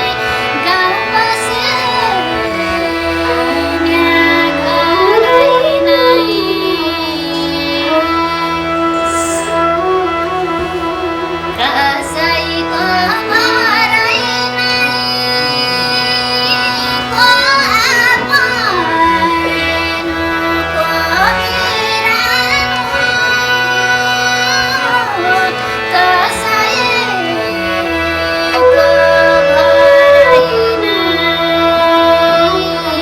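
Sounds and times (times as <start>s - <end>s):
folk song with sliding melody: 0.0s - 33.0s
held accompaniment notes: 0.0s - 33.0s.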